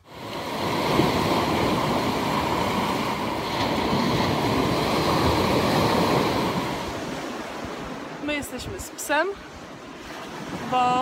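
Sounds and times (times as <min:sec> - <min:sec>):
surf breaking on boulder beach: 0:00.0 - 0:11.0.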